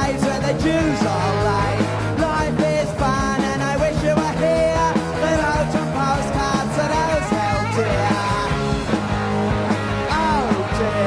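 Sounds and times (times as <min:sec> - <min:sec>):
person singing lead vocal: 0:00.0 - 0:08.8, 0:10.0 - 0:11.0
punk rock band playing live: 0:00.0 - 0:11.0.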